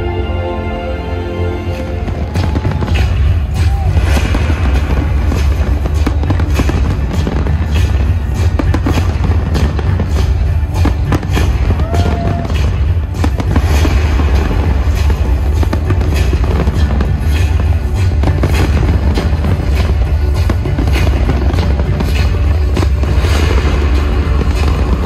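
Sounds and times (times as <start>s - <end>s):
loud music with heavy bass: 0.0s - 25.0s
fireworks bursting: 1.6s - 25.0s.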